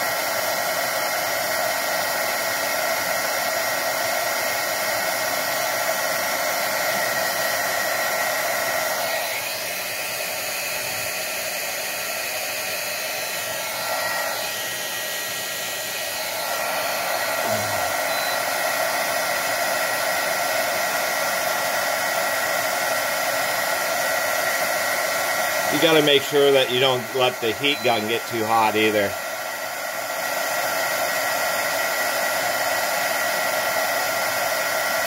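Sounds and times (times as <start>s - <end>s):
heat gun blowing hot air: 0.0s - 35.0s.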